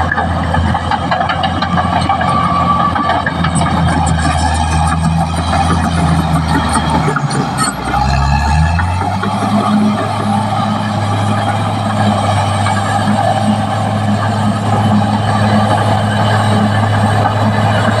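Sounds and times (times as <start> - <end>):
bulldozer diesel engine humming: 0.0 - 18.0.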